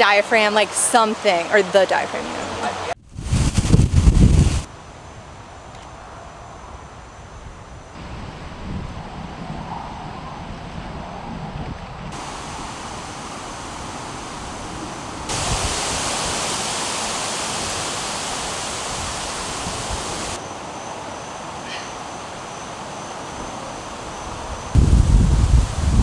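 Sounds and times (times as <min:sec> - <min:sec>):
wind blowing through woods: 0:00.0 - 0:26.0.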